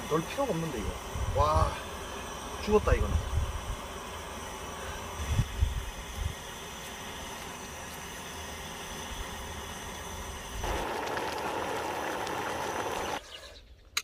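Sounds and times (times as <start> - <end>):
broth boiling hard in pot: 0.0 - 13.4.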